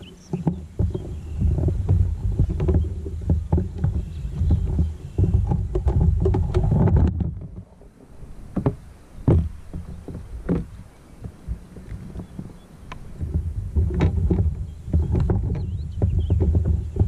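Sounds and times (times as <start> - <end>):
wind and water rumble: 0.0 - 17.0
knocks on kayak hull: 0.3 - 7.7, 8.5 - 17.0.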